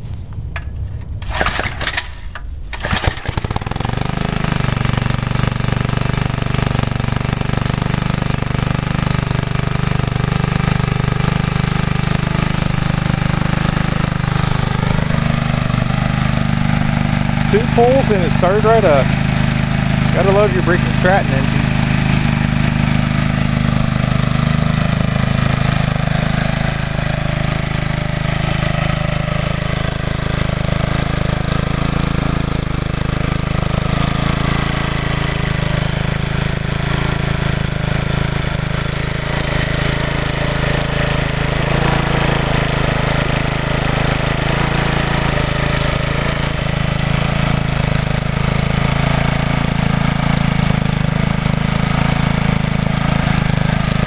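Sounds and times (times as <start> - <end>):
small engine running steadily: 0.0 - 54.0.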